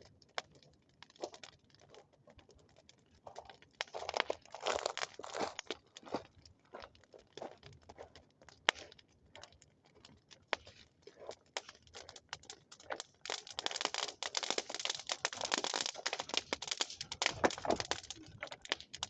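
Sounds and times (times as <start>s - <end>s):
bonfire crackling: 0.0s - 19.0s
fire pops: 0.0s - 19.0s.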